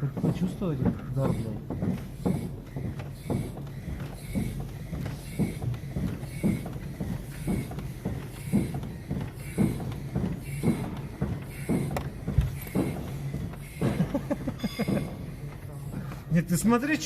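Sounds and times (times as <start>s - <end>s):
steady low hum: 0.0s - 17.0s
truck cab knocking and creaking: 0.0s - 17.0s.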